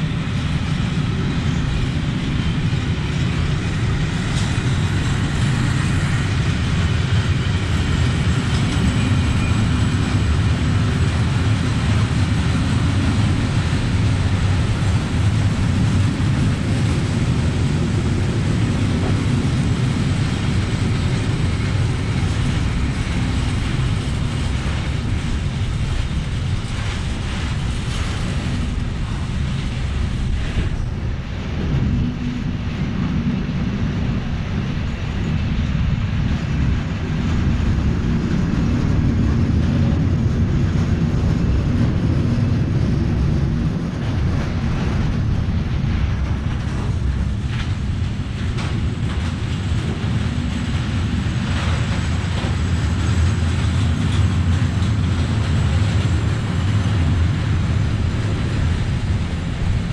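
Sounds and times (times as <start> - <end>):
freight train rumbling: 0.0 - 59.9
wheel and rail clatter: 0.0 - 59.9.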